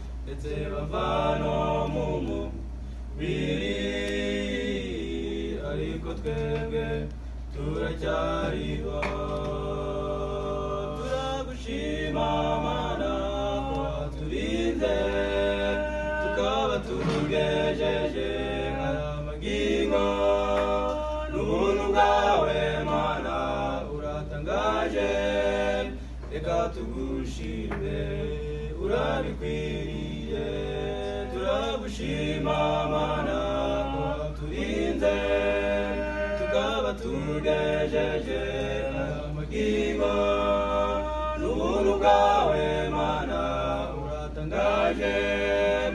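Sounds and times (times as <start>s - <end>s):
male vocal group singing a cappella: 0.0s - 45.9s
steady low hum: 0.0s - 45.9s.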